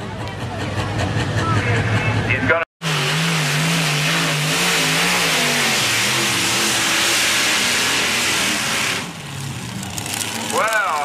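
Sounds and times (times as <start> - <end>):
tractor engine at full throttle: 0.0 - 11.0.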